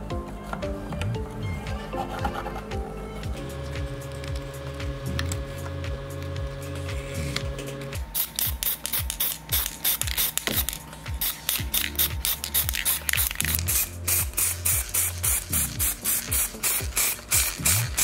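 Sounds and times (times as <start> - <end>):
background music with bass: 0.0 - 18.0
spray paint hissing bursts: 3.4 - 18.0.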